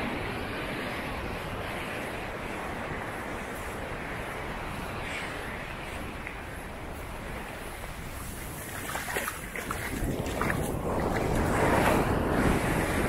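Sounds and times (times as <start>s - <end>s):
sea surf washing up beach: 0.0s - 13.0s
wind on microphone: 0.0s - 13.0s.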